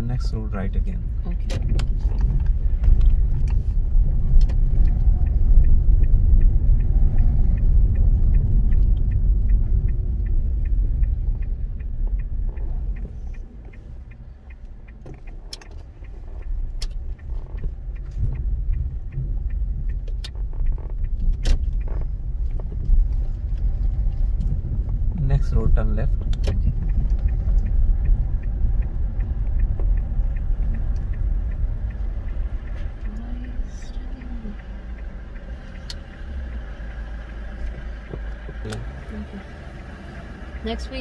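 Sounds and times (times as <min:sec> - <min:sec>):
car engine and tyre rumble: 0:00.0 - 0:41.0
turn indicator ticking: 0:00.0 - 0:41.0.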